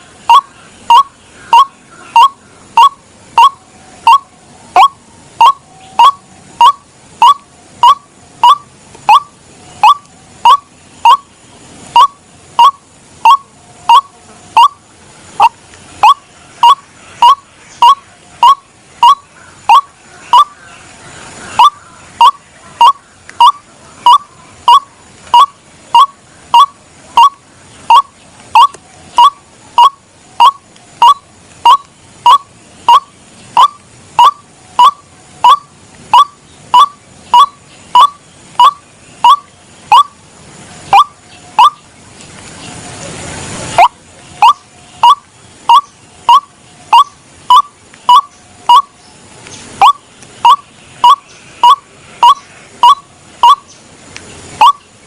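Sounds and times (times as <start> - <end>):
waterhen call: 0.0 - 55.0.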